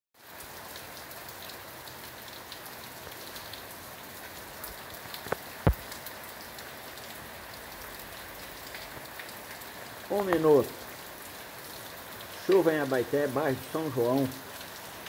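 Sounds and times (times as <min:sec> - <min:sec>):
rain falling on a street: 0:00.2 - 0:15.0.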